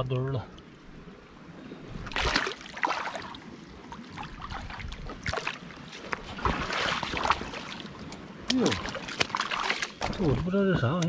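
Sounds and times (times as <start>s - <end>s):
feet wading through water: 1.4s - 10.5s.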